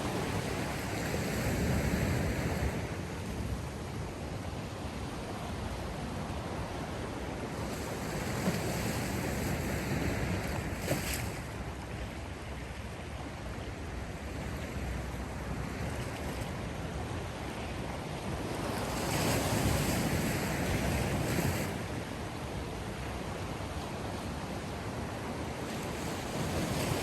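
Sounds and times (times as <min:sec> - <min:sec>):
sea waves washing ashore: 0:00.0 - 0:27.0.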